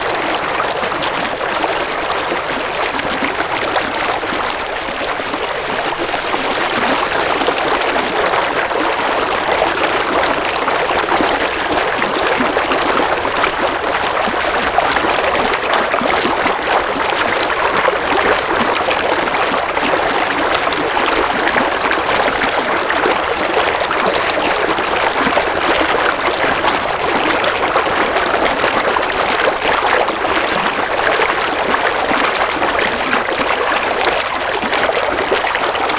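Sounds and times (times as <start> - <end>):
stream trickling over stones: 0.0 - 35.9.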